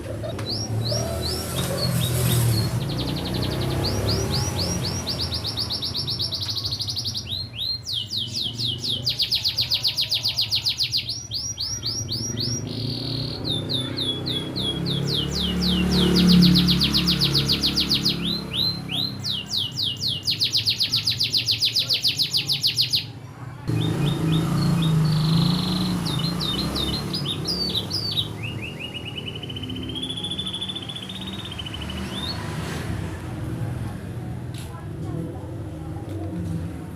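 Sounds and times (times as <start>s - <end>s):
canary singing chirp trills: 0.1s - 32.6s.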